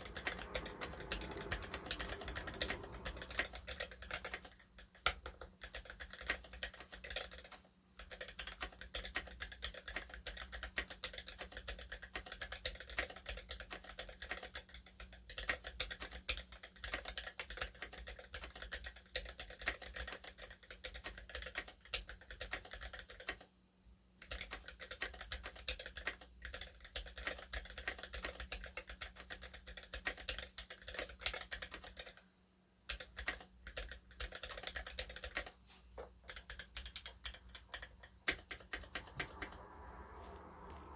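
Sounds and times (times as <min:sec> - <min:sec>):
mechanical keyboard typing: 0:00.0 - 0:23.5, 0:24.2 - 0:32.3, 0:32.9 - 0:35.6, 0:36.2 - 0:39.6.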